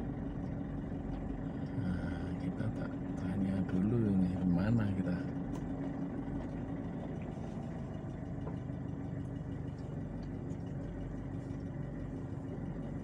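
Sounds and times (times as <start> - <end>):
vehicle engine idling low: 0.0 - 13.0.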